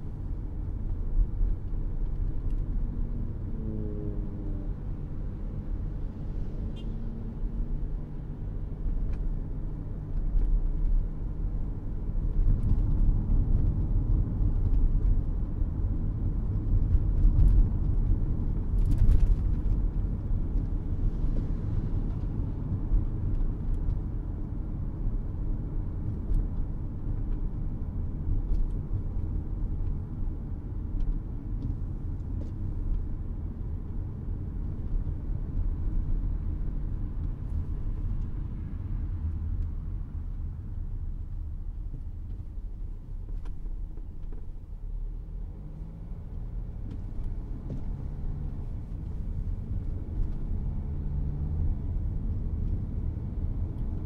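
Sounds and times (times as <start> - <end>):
car engine and tyres rumble: 0.0 - 54.0.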